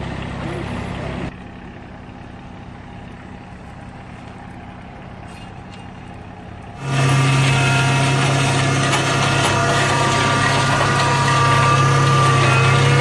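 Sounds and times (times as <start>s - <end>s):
machine engine hum: 0.0s - 13.0s.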